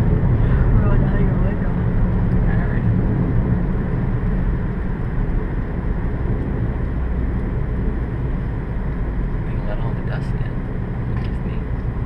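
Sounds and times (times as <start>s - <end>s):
car engine running: 0.0s - 12.0s
wind buffeting a car: 0.0s - 12.0s.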